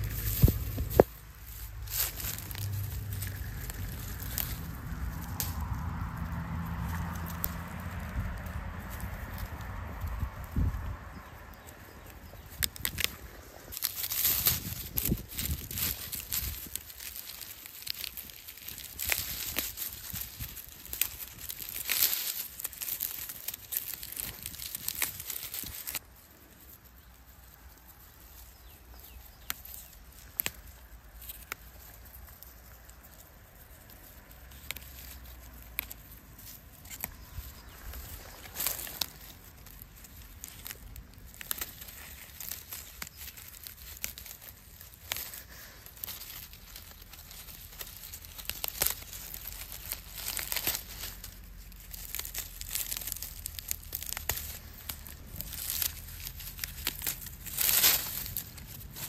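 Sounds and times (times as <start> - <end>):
fern stems rustling and snapping: 0.0 - 59.0.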